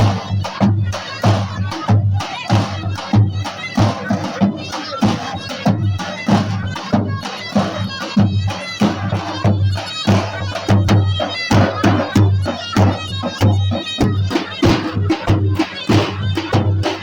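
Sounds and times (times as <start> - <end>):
driving drum beat: 0.0 - 17.0
reedy wind instrument: 0.0 - 17.0.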